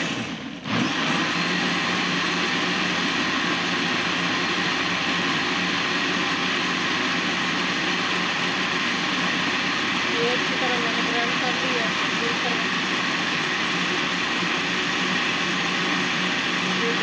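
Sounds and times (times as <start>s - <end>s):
electric blender motor running: 0.0s - 17.0s.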